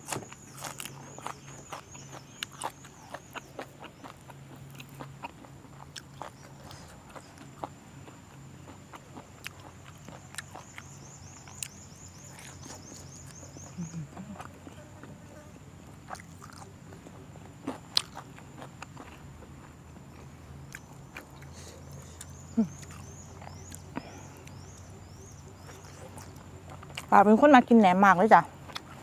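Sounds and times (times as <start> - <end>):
chewing and mouth clicks: 0.0 - 14.8, 16.1 - 17.0, 17.6 - 27.1, 28.6 - 29.0.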